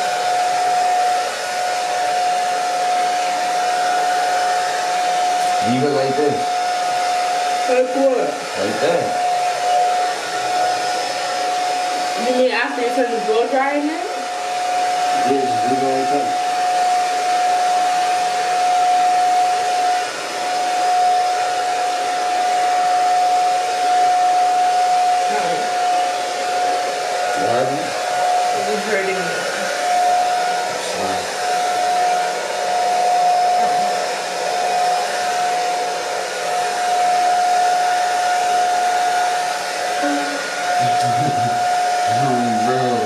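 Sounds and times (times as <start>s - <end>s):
hair dryer running: 0.0s - 43.0s.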